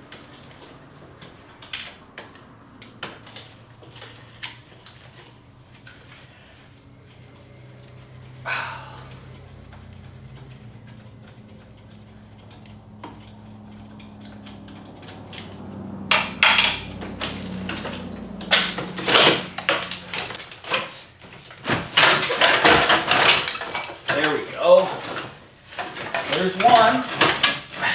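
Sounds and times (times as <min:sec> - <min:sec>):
metal tools clanking: 0:00.1 - 0:27.9.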